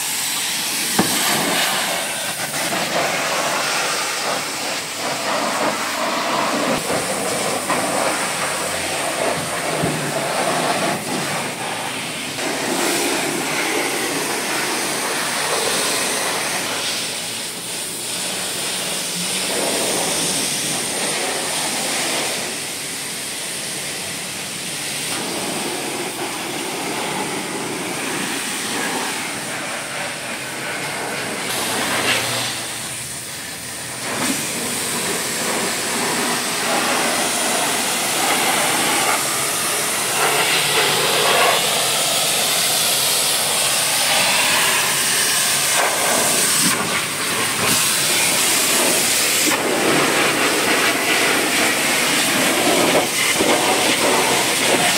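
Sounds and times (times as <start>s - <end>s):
steady high hiss: 0.0s - 54.9s.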